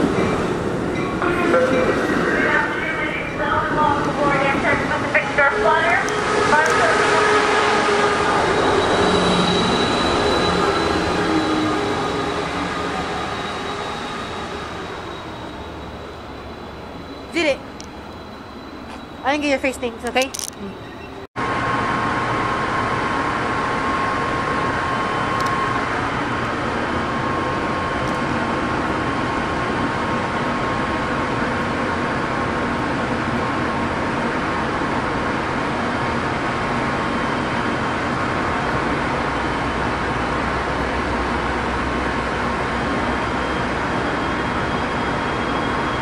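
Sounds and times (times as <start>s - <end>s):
standing train humming and whirring: 0.0s - 46.0s.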